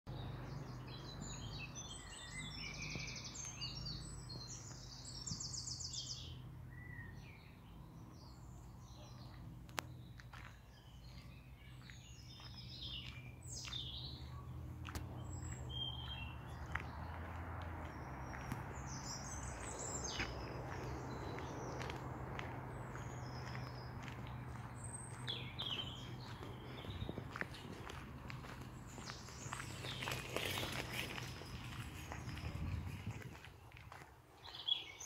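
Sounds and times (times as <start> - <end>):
songbirds singing: 0.1 - 35.0.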